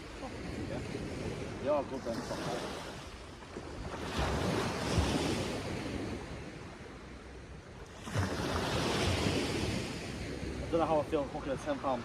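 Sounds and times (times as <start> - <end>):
surf washing on sand: 0.0 - 12.0.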